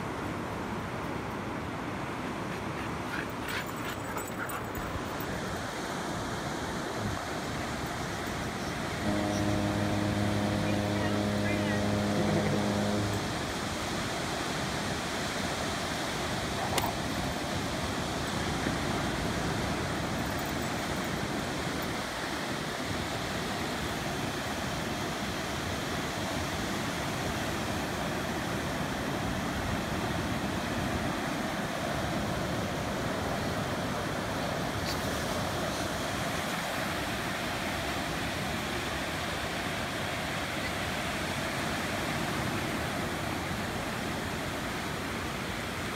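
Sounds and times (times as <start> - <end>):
ocean surf breaking: 4.9 - 45.9.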